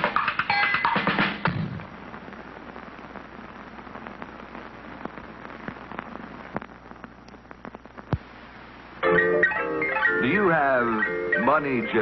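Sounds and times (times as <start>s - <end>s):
film soundtrack surface noise: 0.0s - 12.0s.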